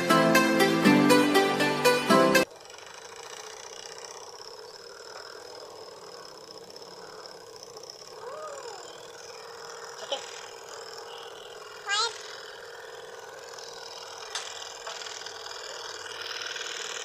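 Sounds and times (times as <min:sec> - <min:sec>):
toy engine whining: 0:00.0 - 0:17.0.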